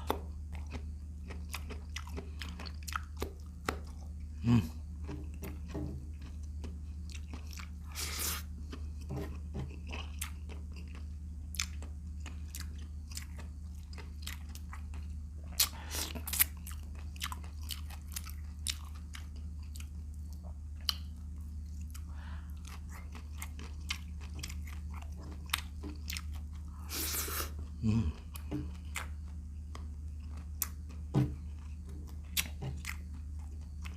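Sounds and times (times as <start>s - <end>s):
person chewing and crunching: 0.0s - 33.9s.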